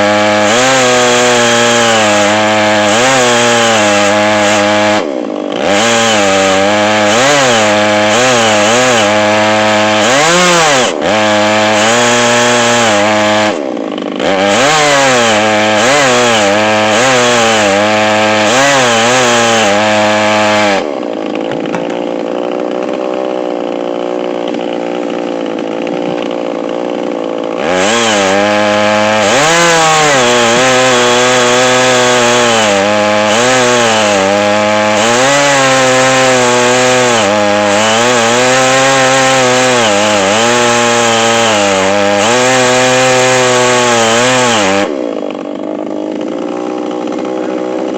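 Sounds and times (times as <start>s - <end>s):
chainsaw cutting through log: 0.0s - 47.9s.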